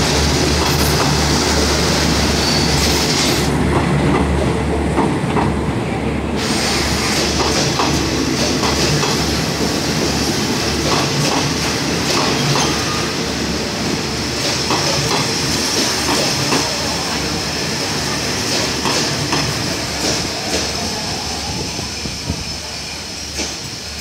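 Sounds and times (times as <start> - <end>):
train coaches rumbling past: 0.0 - 24.0.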